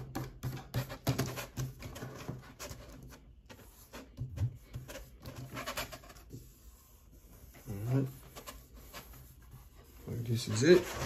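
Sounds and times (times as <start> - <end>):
light taps and scrapes: 0.0 - 11.0.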